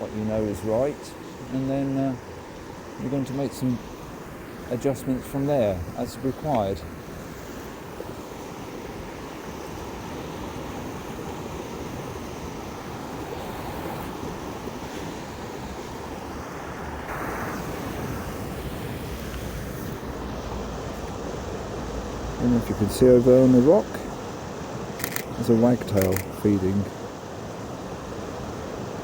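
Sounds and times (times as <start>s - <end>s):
steady rushing outdoor noise: 0.0s - 29.0s.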